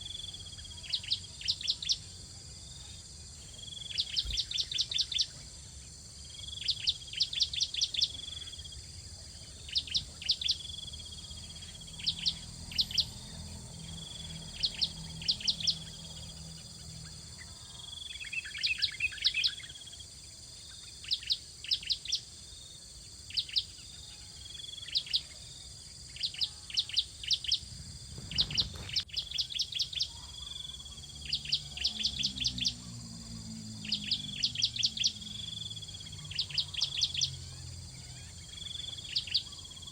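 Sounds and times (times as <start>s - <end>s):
bird chirping: 0.0s - 39.9s
insect drone: 0.0s - 39.9s.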